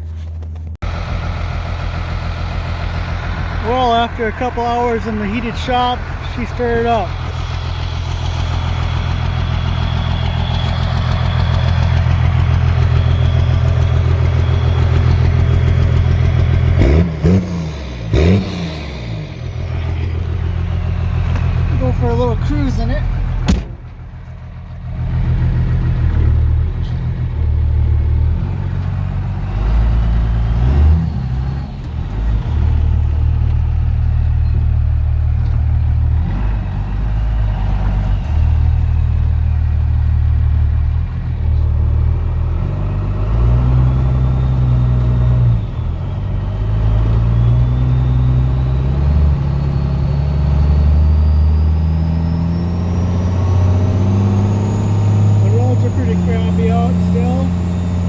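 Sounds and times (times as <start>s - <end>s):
diesel truck engine accelerating: 0.0s - 58.0s.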